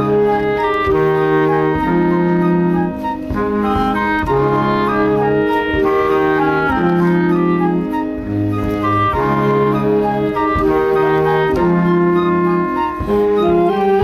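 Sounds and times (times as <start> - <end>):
wind band playing: 0.0 - 14.0.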